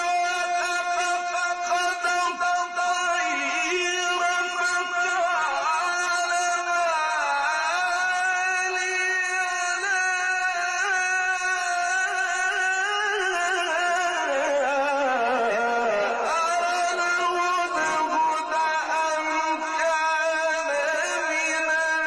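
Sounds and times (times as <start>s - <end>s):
man reciting in melodic chant: 0.0s - 22.0s.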